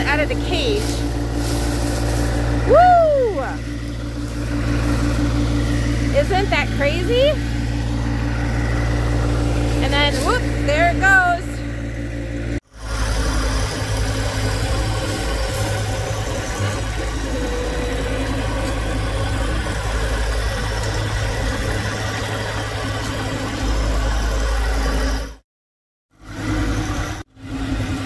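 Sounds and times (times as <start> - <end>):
tractor diesel engine running: 0.0 - 25.4, 26.1 - 28.0.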